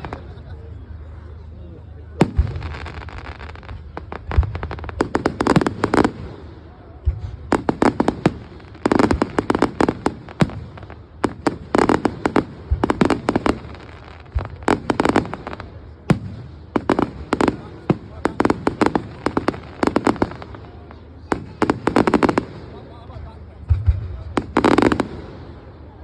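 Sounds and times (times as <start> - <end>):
firework crackling: 0.0 - 0.4, 2.2 - 26.0
firework shells booming: 2.2 - 22.9, 23.5 - 25.7.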